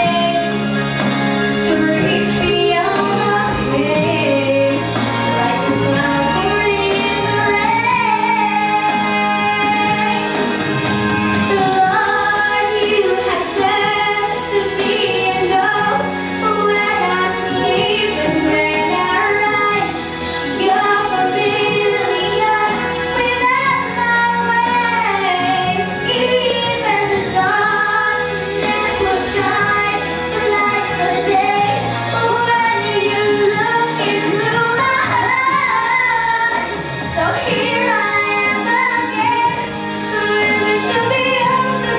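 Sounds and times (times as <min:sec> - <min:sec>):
woman singing: 0:00.0 - 0:00.6, 0:01.6 - 0:10.4, 0:11.5 - 0:41.9
instrumental accompaniment: 0:00.0 - 0:41.9.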